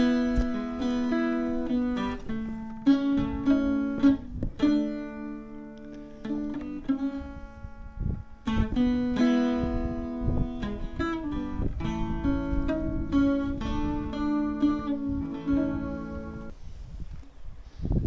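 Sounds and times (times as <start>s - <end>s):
acoustic guitar music: 0.0s - 16.6s.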